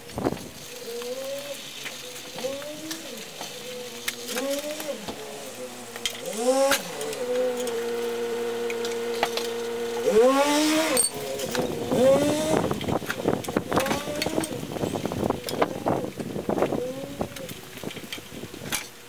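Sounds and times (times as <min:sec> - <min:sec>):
engine drone accelerating: 0:00.6 - 0:17.9.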